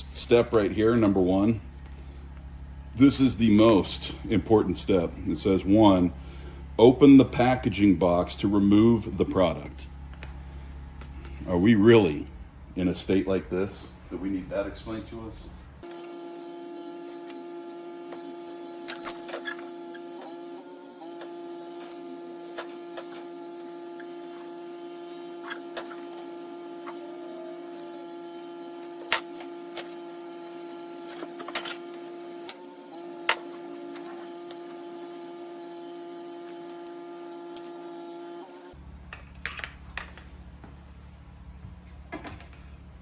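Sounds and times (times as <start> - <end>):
steady machine hum: 0.0 - 43.0.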